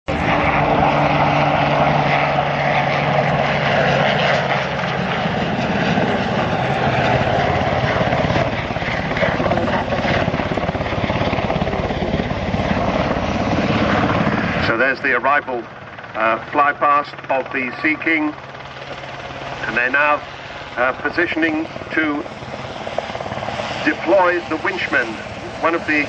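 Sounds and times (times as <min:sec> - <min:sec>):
helicopter flying past: 0:00.1 - 0:26.0.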